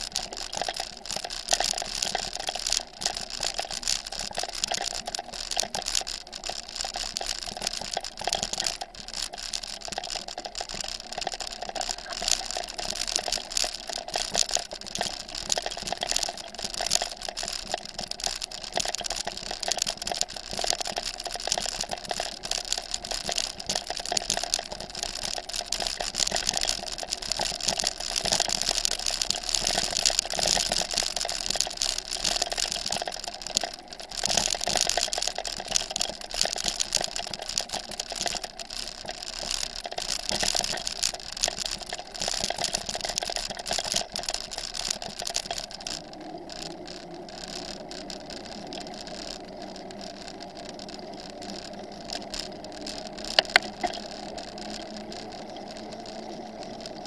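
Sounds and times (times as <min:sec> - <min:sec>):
bicycle rattling over bumpy ground: 0:00.0 - 0:57.0.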